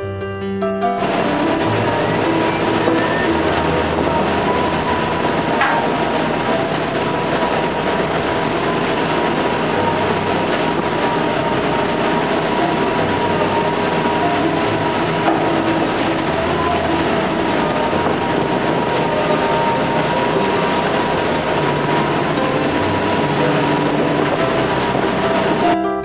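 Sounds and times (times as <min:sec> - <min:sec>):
dredge machinery running: 0:01.0 - 0:25.8
steady whining tones: 0:01.0 - 0:25.8.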